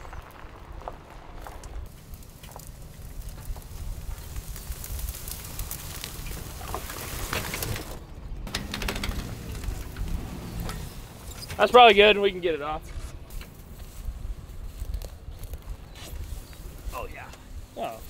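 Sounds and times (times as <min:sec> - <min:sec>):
rustling noise: 0:00.0 - 0:18.0
wind buffeting microphone: 0:00.0 - 0:18.0.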